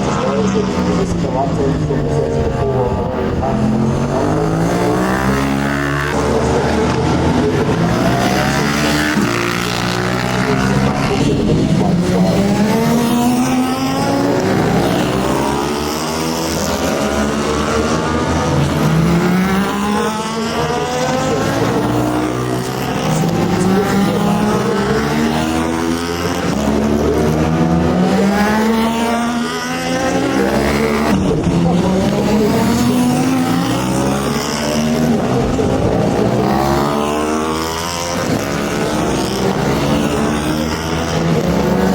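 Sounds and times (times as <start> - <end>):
racing motorcycles at full throttle: 0.0 - 41.9.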